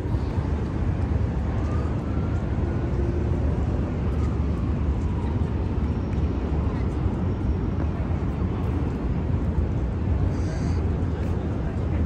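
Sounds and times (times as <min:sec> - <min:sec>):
vehicle rumbling in motion: 0:00.0 - 0:12.0.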